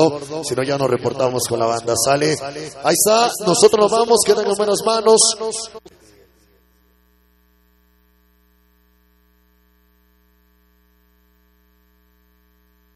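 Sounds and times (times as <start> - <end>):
faint electrical hum: 0.0 - 12.9.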